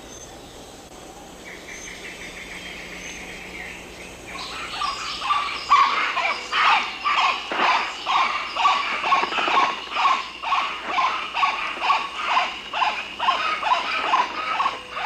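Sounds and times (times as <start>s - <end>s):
chattering squealing animal calls: 1.4s - 15.0s.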